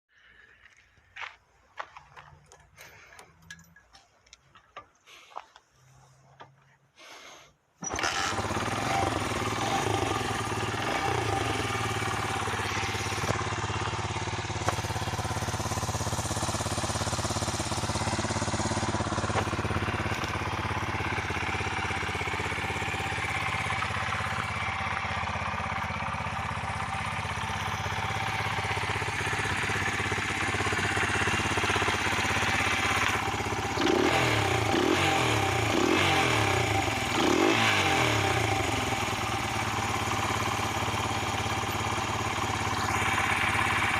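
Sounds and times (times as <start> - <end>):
motorcycle engine idling and revving: 0.1 - 6.8, 7.8 - 43.9.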